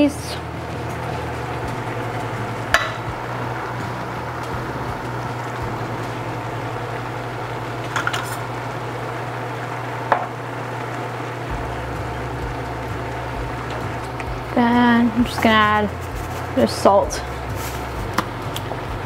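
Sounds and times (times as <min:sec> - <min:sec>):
meat sizzling in a pan: 0:00.6 - 0:19.0.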